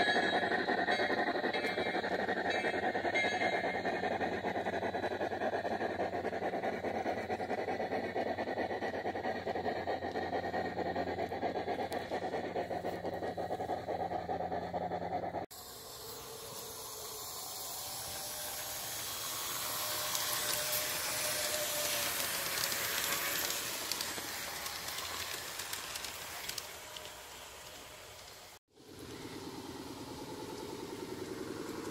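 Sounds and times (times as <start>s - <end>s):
train rushing past: 0.0s - 13.5s, 15.6s - 31.9s
fast rattling of model train: 0.0s - 31.9s.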